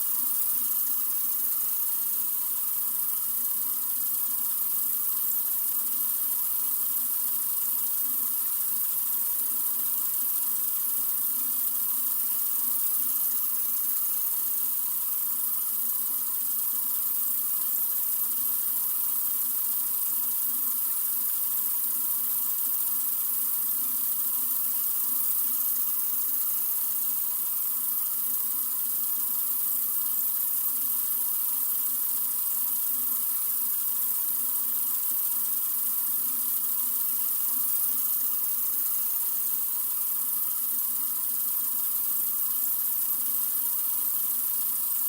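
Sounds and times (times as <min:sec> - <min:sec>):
sink faucet running: 0:00.0 - 0:45.0.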